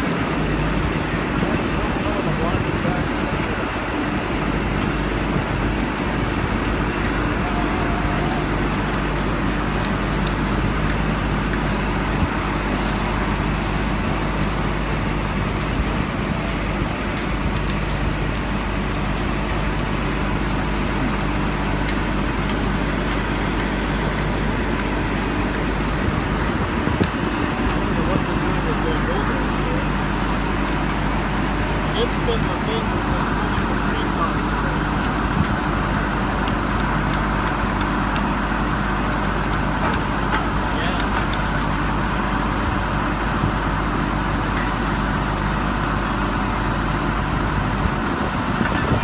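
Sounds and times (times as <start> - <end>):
crane diesel engine droning: 0.0 - 49.0
road traffic noise: 0.0 - 49.0.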